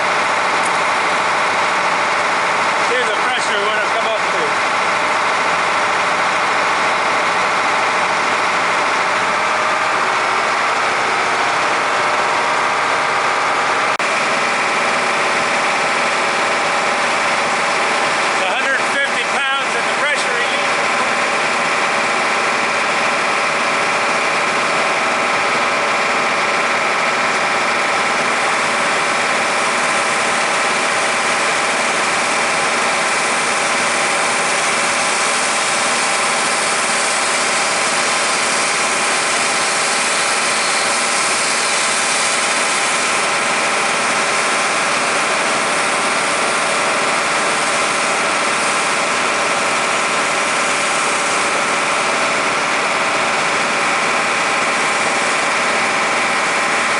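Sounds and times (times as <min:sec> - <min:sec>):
fire engine engine droning: 0:00.0 - 0:56.9.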